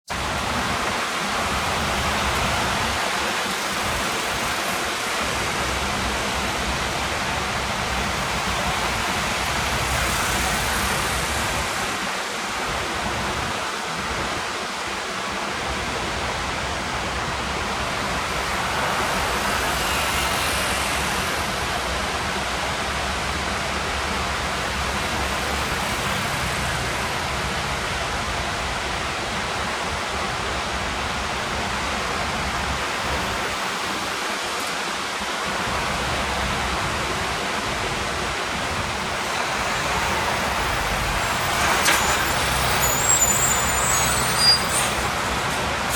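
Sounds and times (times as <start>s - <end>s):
heavy surf breaking: 0.1s - 28.6s, 31.1s - 43.0s.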